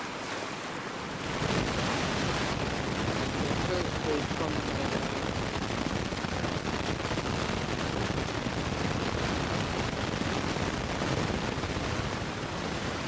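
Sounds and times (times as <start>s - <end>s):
wind buffeting microphone: 1.0s - 13.0s.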